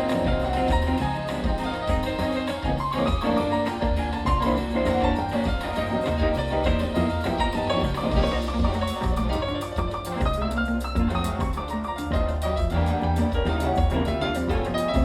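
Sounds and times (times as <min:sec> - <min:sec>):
jazz band playing mambo: 0:00.0 - 0:15.0.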